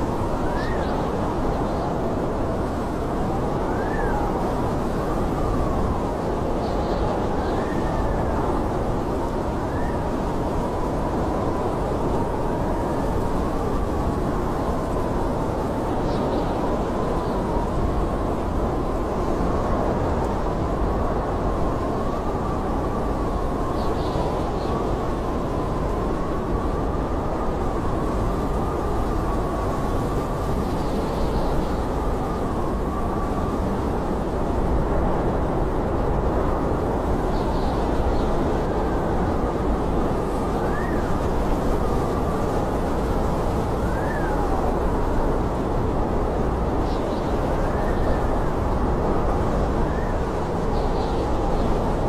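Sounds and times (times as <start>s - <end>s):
howling blizzard wind: 0.0s - 52.0s.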